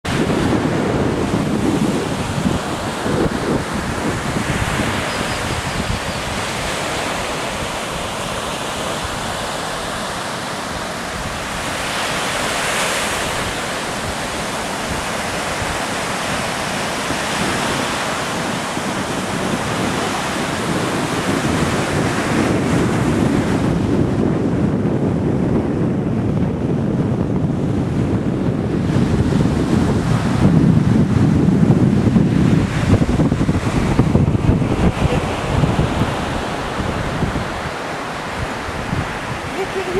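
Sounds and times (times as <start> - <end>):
surf breaking on sandy beach: 0.0 - 39.9
wind buffeting microphone: 0.0 - 39.9.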